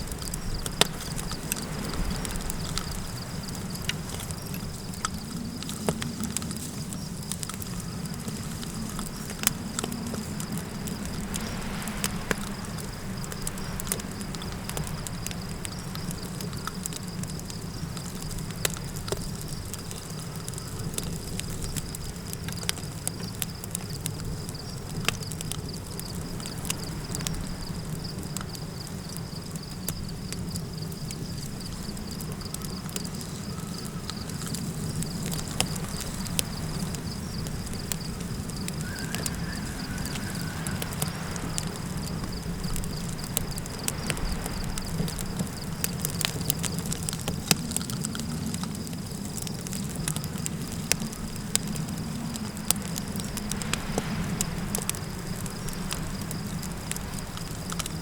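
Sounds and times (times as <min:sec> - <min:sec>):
campfire crackling and popping: 0:00.0 - 0:58.0
high insect trill: 0:00.0 - 0:58.0
low rumble of wind: 0:00.0 - 0:58.0.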